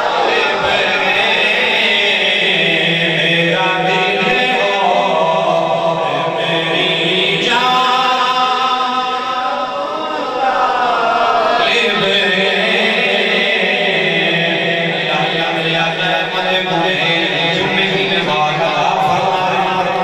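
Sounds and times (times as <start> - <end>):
amplified religious chanting: 0.0 - 20.0.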